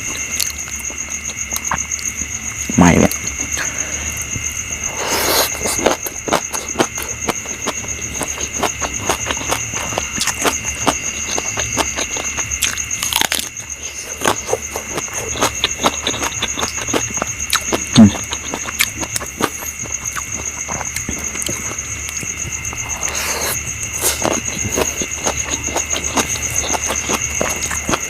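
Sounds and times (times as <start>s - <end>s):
person chewing food: 0.0s - 2.5s, 3.1s - 28.0s.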